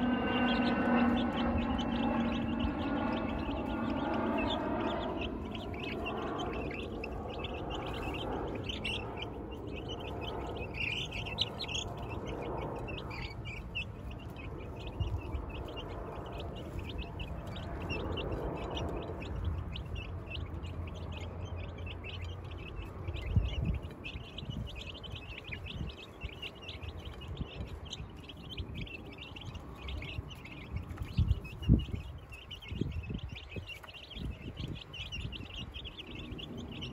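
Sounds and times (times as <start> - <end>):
chicks peeping: 0.0 - 36.9.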